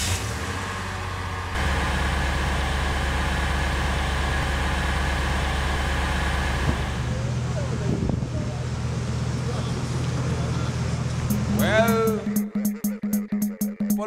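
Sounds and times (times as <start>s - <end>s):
car engine running: 0.8s - 12.4s.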